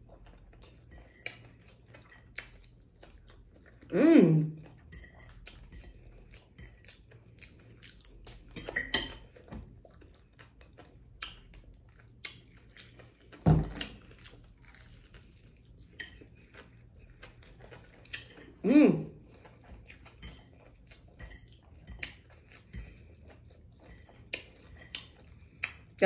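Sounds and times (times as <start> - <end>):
person chewing food: 0.0 - 3.9, 4.5 - 26.0.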